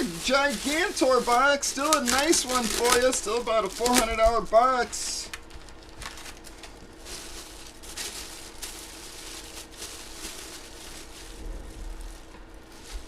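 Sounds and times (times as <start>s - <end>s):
cards and plastic packaging rustling: 0.0s - 13.0s
faint electrical hum: 0.0s - 13.0s.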